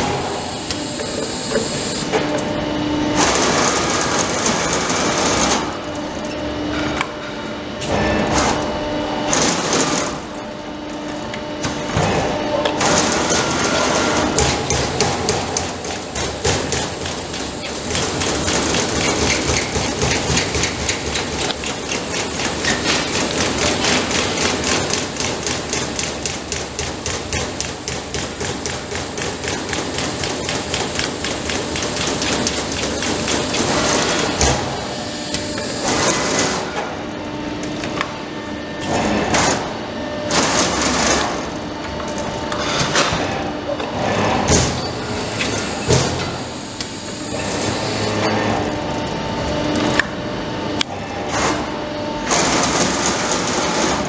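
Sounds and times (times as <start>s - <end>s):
machine sounds: 0.0s - 54.0s.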